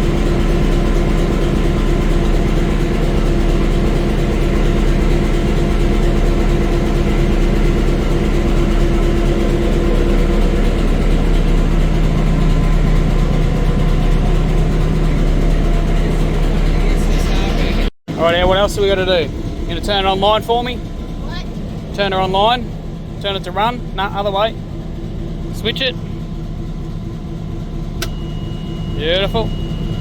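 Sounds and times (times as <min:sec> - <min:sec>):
locomotive diesel engine idling: 0:00.0 - 0:30.0.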